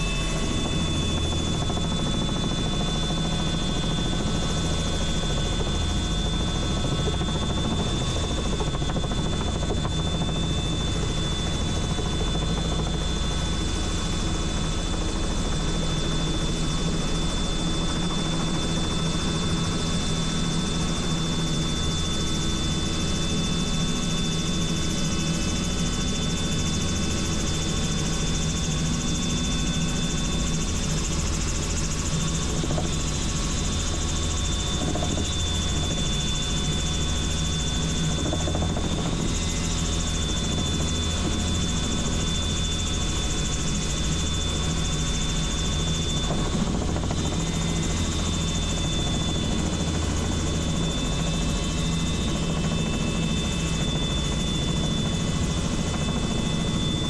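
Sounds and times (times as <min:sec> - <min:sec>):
helicopter engine and rotor drone: 0:00.0 - 0:57.0
turbine whine: 0:00.0 - 0:57.0.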